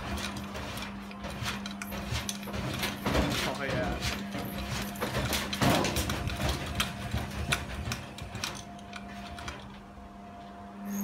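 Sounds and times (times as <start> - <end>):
washing machine rattling and knocking: 0.0 - 9.7
washing machine motor humming: 0.0 - 11.0.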